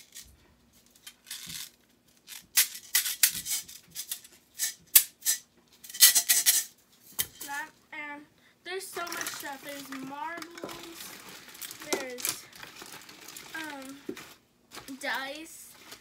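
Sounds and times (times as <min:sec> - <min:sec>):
plastic fidget toys rattling: 0:00.9 - 0:07.7, 0:08.9 - 0:16.0.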